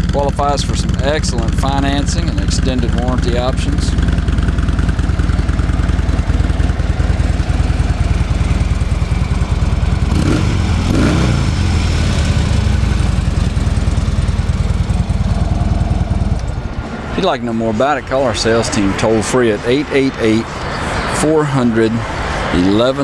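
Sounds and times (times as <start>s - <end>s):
motorcycle engine idling: 0.0s - 21.1s
engine revving: 0.0s - 23.0s.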